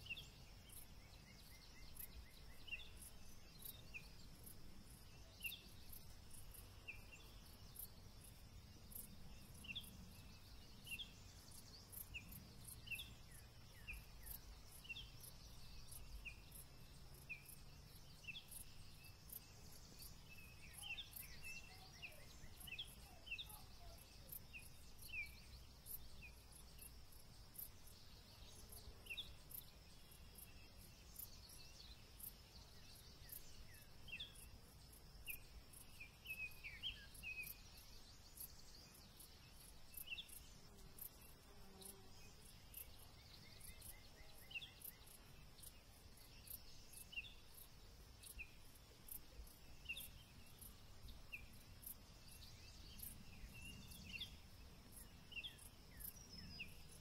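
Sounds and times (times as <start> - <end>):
continuous high insect trill: 0.0 - 57.0
crickets chirping: 0.0 - 57.0.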